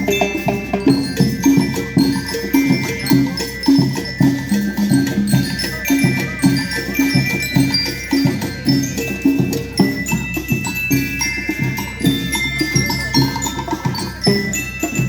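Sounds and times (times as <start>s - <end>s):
mallet percussion melody: 0.0s - 15.0s
percussion beat: 0.0s - 15.0s.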